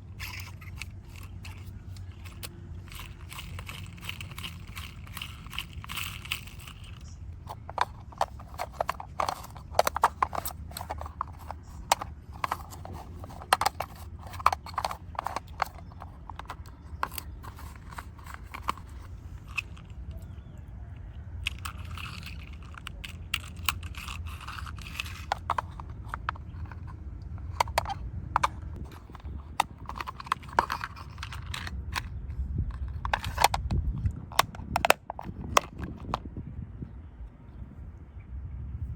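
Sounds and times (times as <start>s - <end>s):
clicks and scraping of model car: 0.0s - 36.3s
steady low hum: 0.0s - 38.9s.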